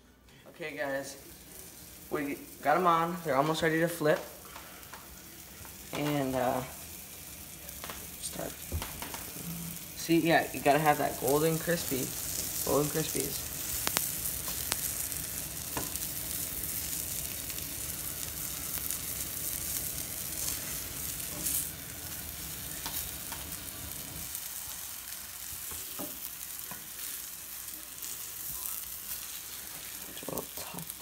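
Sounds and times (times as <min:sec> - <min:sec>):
fish sizzling in a frying pan: 0:00.7 - 0:31.0.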